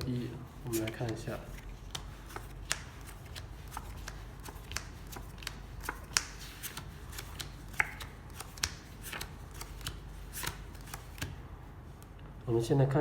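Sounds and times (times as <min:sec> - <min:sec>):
playing cards slapping on table: 0:00.0 - 0:11.4.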